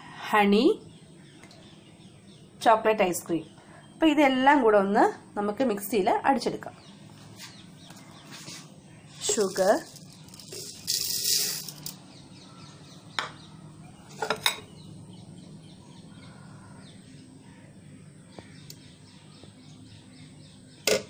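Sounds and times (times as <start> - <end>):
faint birds chirping: 0.0 - 21.0
low steady hum: 0.0 - 21.0.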